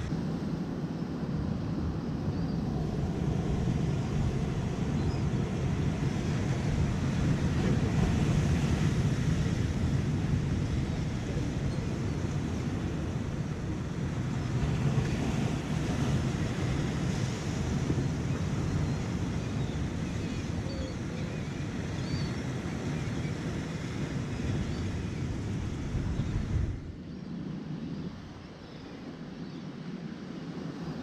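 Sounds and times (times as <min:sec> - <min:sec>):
surf on rocky shore: 0:00.0 - 0:31.0
wind buffeting microphone: 0:00.0 - 0:31.0.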